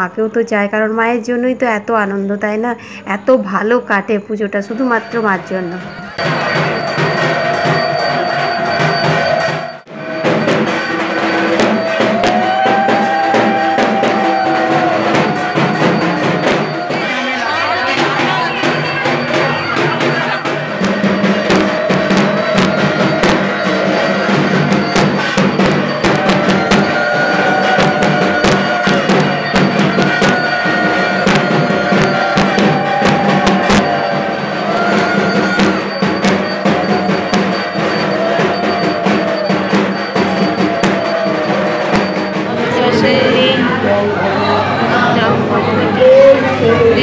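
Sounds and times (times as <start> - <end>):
metal bells clanging: 4.6 - 43.7
drums beating: 4.6 - 44.0.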